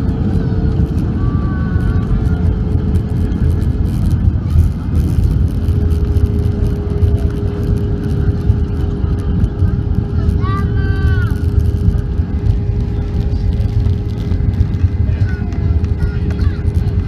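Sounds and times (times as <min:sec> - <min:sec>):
aircraft landing rumble: 0:00.0 - 0:17.0
steady cabin hum: 0:00.0 - 0:17.0.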